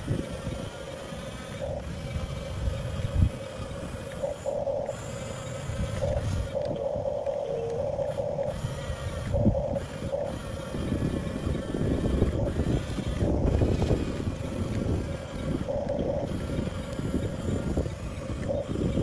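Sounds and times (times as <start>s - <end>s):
electric motors whining: 0.0s - 19.0s
low rumbling noise: 1.3s - 19.0s.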